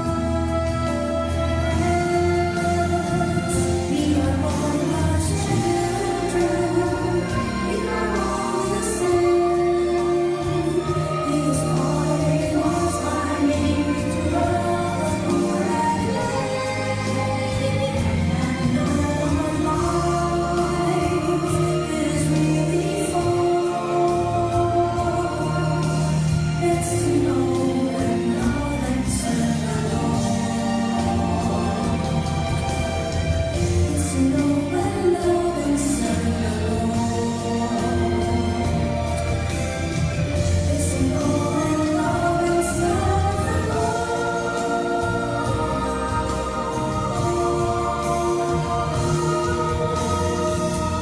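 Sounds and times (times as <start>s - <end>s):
band with bass: 0.0s - 51.0s
cymbals keeping a steady beat: 0.0s - 51.0s
group of voices singing: 0.0s - 51.0s
instrumental accompaniment: 0.0s - 51.0s.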